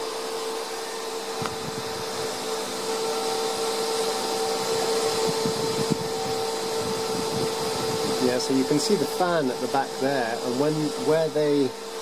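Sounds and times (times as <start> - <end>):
cooling fan whirring: 0.0 - 12.0.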